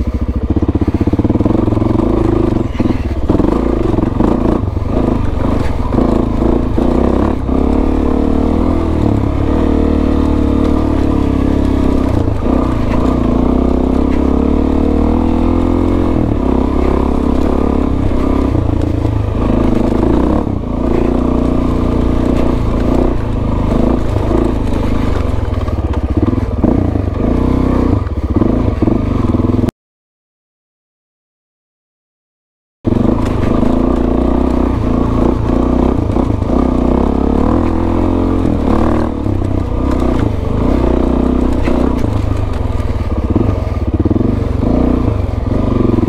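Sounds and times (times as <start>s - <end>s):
knocks and clatter from bike: 0.0s - 29.7s, 32.9s - 46.0s
motorcycle engine revving: 0.0s - 29.7s, 32.9s - 46.0s.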